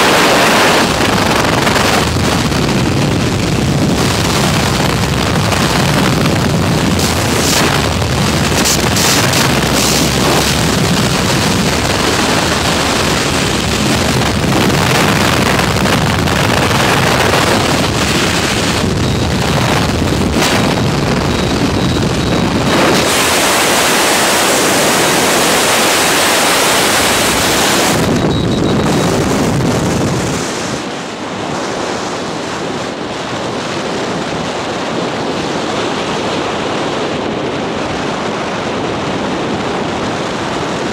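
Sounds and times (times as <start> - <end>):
wind roaring over microphone: 0.0 - 40.9.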